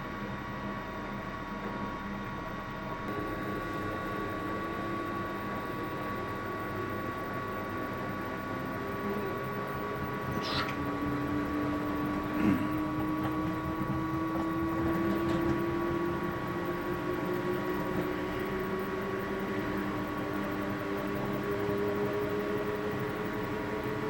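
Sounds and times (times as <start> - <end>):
washing machine motor whine: 0.0 - 24.0.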